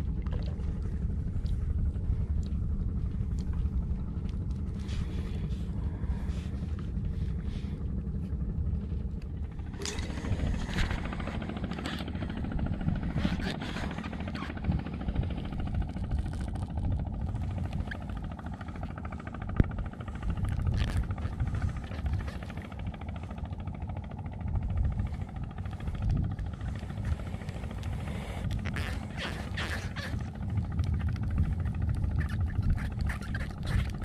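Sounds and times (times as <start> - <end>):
wind buffeting microphone: 0.0 - 34.0
fishing line rustling and scraping: 3.1 - 12.4, 13.0 - 14.7, 15.4 - 23.4, 25.1 - 34.0.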